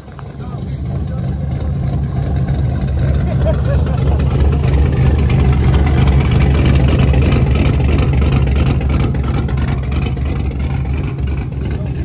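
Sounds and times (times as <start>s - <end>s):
muscle car engine rumbling: 0.0s - 12.0s.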